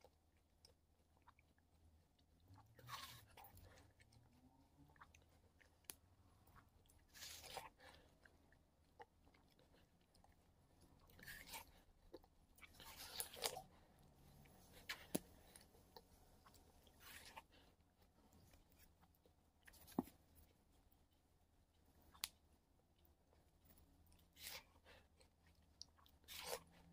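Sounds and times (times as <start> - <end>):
quiet chewing: 0.0 - 26.9.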